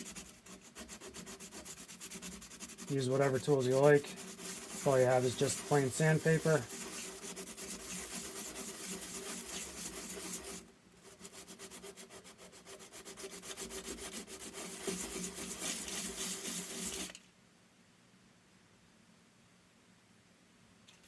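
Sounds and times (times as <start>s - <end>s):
sandpaper rubbing on metal tube: 0.0s - 17.2s.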